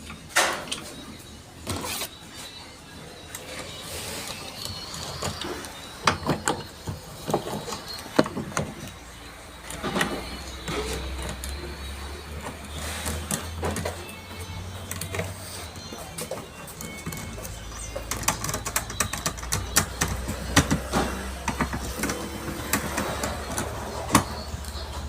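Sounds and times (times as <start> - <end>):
parts and tools clicking: 3.3 - 25.0.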